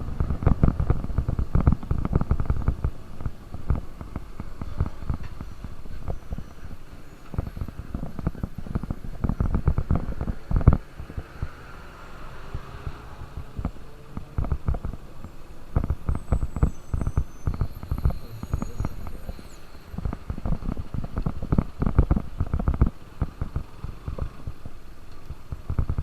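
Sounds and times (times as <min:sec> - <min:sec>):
wind buffeting microphone: 0:00.0 - 0:23.6
faint motorcycle engine: 0:00.0 - 0:26.0.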